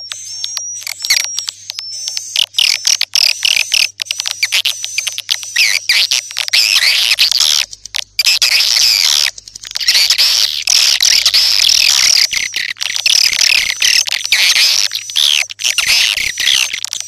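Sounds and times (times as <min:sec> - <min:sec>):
swiftlet twittering chirps: 0:00.1 - 0:17.0.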